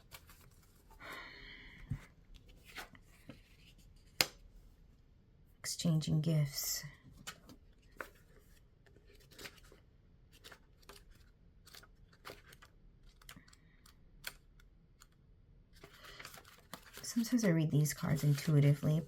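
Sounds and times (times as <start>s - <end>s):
cards and pages rustling: 0.0s - 4.5s, 7.0s - 19.0s.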